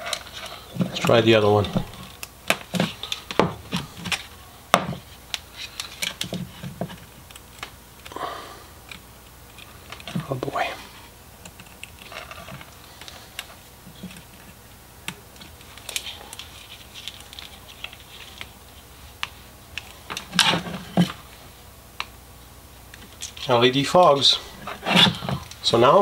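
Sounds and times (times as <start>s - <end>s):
hands handling wiring: 0.0s - 8.2s, 8.8s - 21.4s, 22.9s - 25.9s.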